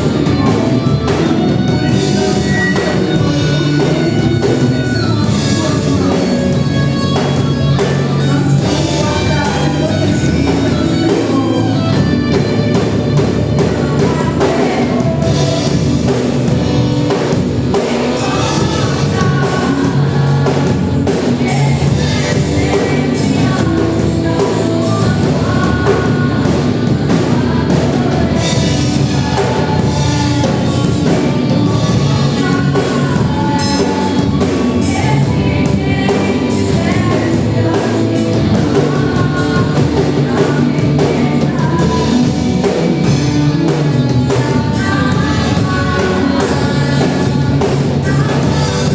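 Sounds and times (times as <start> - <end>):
drum kit beat: 0.0 - 48.9
person singing: 0.0 - 48.9
worship band playing: 0.0 - 48.9.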